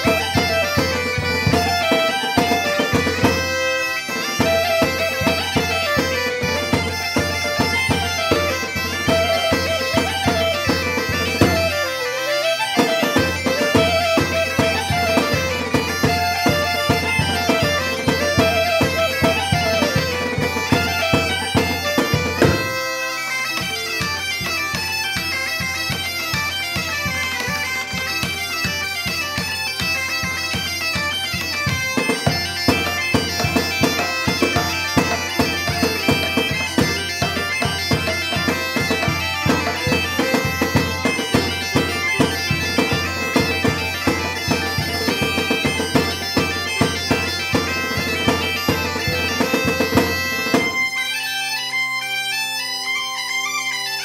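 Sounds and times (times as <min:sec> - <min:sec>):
bagpipes playing dance tune: 0:00.0 - 0:54.0.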